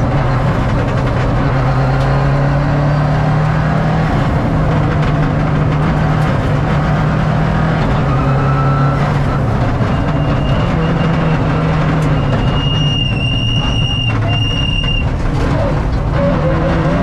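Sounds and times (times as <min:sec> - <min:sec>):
rally car engine pulling hard: 0:00.0 - 0:17.0.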